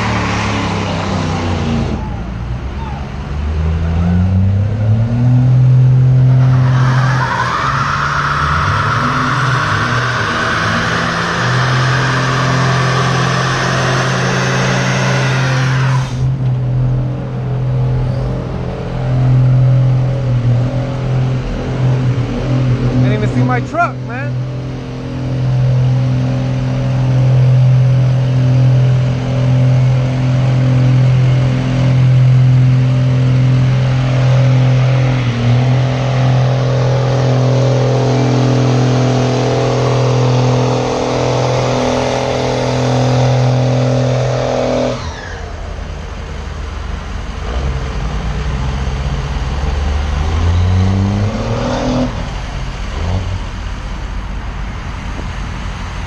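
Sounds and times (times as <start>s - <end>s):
engine revving up: 0.0s - 2.4s, 3.3s - 16.4s, 17.6s - 45.7s, 47.4s - 53.5s
engine at high revs: 0.0s - 16.4s, 17.2s - 53.6s.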